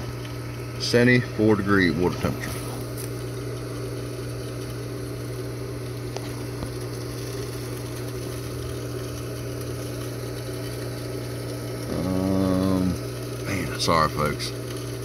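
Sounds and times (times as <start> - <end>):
pool pump motor humming: 0.0 - 15.0.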